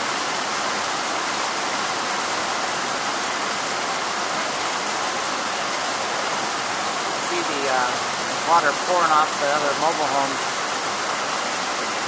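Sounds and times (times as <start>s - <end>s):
steady rain falling: 0.0s - 12.0s
water pouring off roofs: 0.0s - 12.0s.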